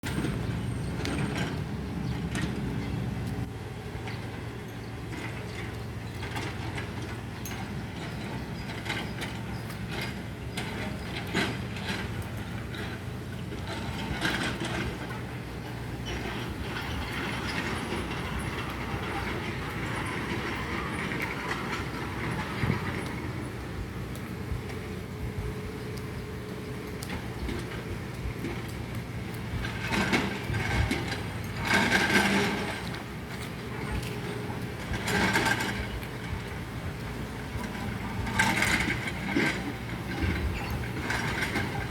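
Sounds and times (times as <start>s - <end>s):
clatter: 0.0s - 26.2s, 26.8s - 41.9s
clicks and rattles: 0.0s - 41.9s
low mechanical rumble: 0.0s - 41.9s.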